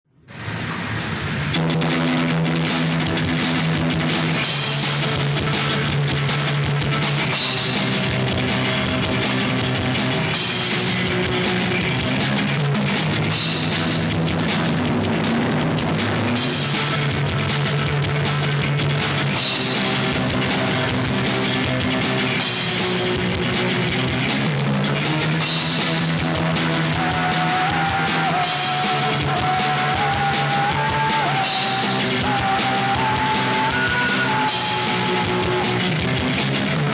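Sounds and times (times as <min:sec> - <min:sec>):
guitar chords: 0:01.4 - 0:36.9
drum kit beat: 0:01.5 - 0:36.9.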